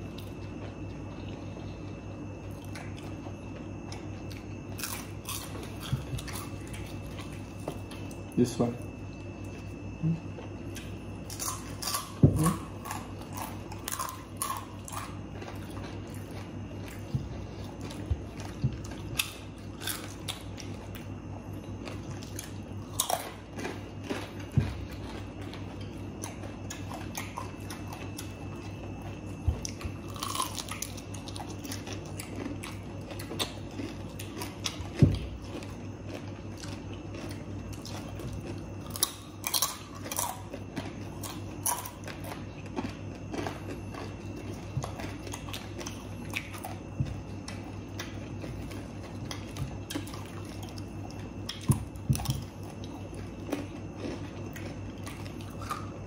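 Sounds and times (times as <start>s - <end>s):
people chewing fried food: 0.0s - 56.0s.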